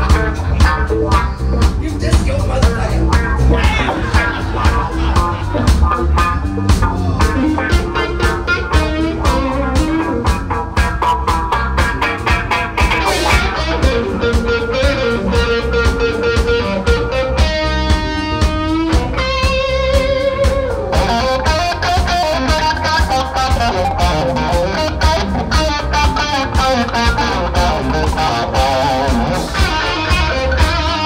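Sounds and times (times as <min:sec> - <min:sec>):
bass guitar: 0:00.0 - 0:31.0
drums: 0:00.0 - 0:31.0
electric guitar lead: 0:00.0 - 0:31.0.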